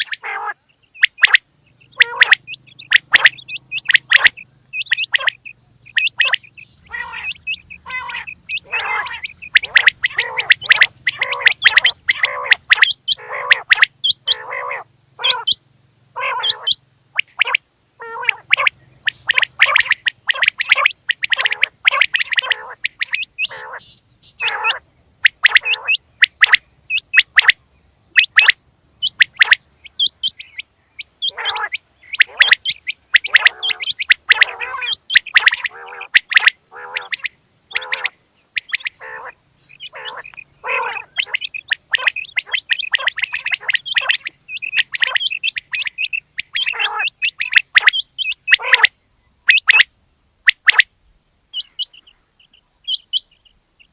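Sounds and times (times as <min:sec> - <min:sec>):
quail calling: 0:00.0 - 0:15.6, 0:16.2 - 0:49.9, 0:51.5 - 0:53.9.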